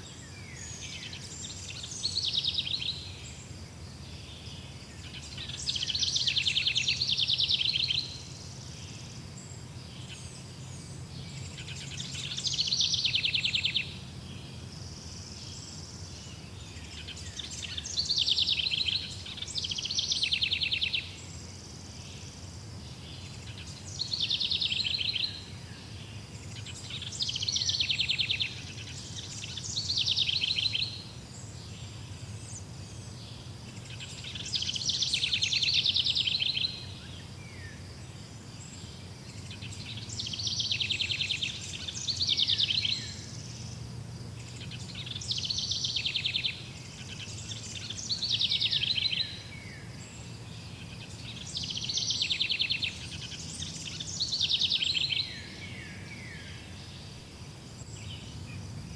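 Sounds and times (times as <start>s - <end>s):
songbird singing trills: 0.0s - 58.9s.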